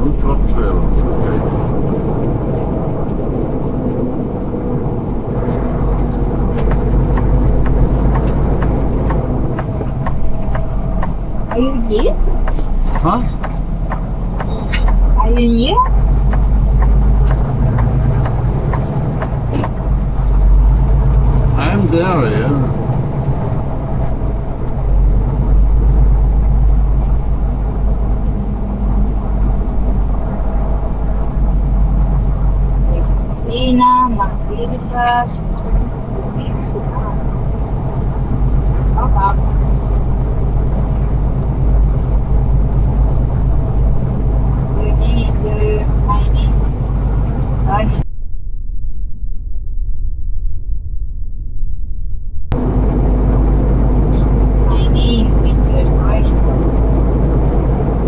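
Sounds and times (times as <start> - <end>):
truck diesel engine drone: 0.0 - 48.1, 52.3 - 58.0
sharp clicks and rattles: 0.1 - 47.8.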